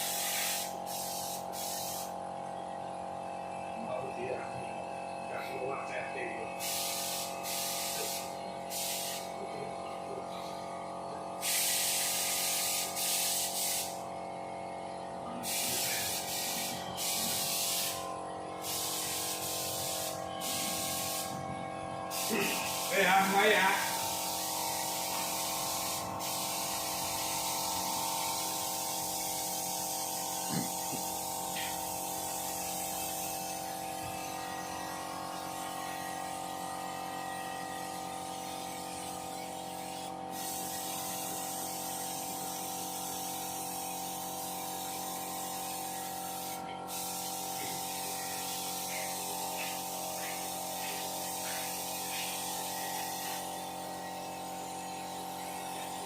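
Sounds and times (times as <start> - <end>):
compressed air hissing from air gun: 0.0 - 2.2, 6.6 - 9.4, 11.4 - 14.1, 15.3 - 21.4, 22.1 - 36.9, 38.2 - 56.0.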